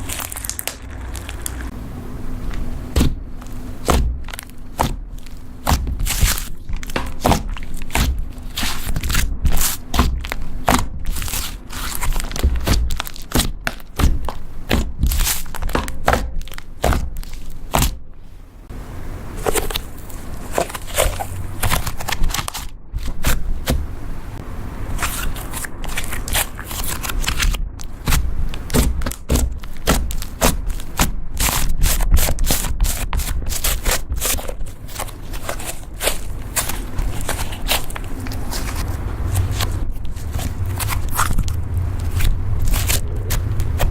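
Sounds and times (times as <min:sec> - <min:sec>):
slime being kneaded by hand: 0:00.0 - 0:18.6, 0:19.3 - 0:43.9.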